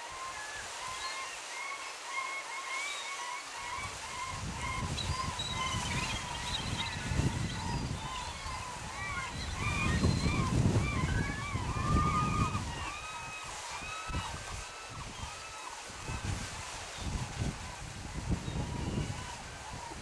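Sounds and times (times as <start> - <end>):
water rushing from falls: 0.0 - 20.0.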